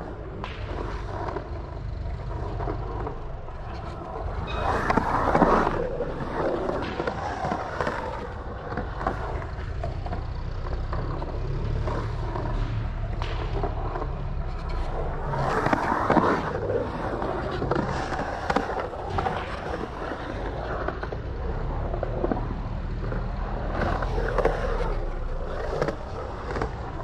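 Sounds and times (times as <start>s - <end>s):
skateboard wheels rolling on concrete: 0.0s - 27.0s.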